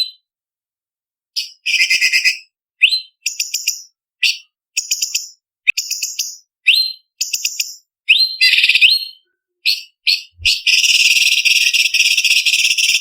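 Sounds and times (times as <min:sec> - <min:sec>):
bird chattering and trilling: 0:01.4 - 0:13.0.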